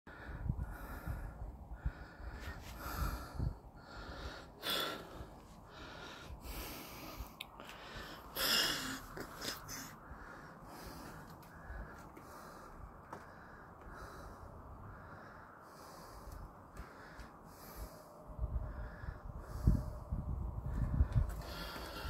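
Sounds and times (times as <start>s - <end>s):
close breathing into microphone: 0.1s - 22.0s.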